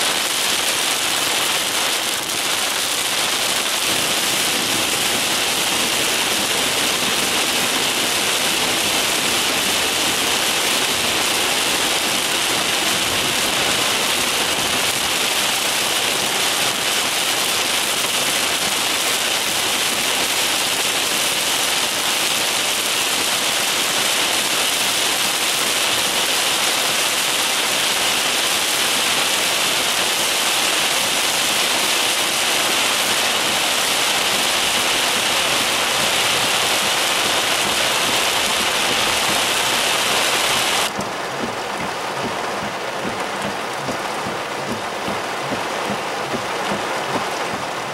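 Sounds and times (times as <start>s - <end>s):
heavy rain on a car roof: 0.0s - 47.9s.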